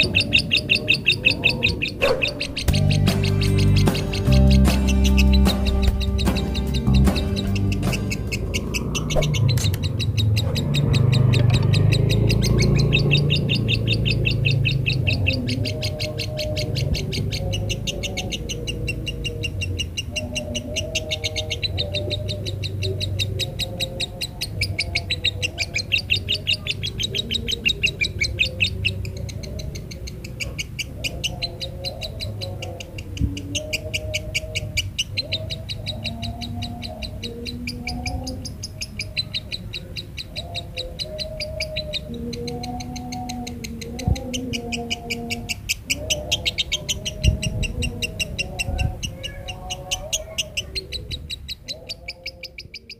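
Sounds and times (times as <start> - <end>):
lovebird chirping: 0.0 - 52.9.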